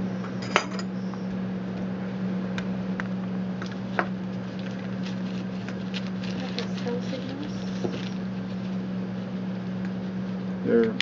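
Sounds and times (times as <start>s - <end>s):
low hum of room equipment: 0.0s - 11.0s.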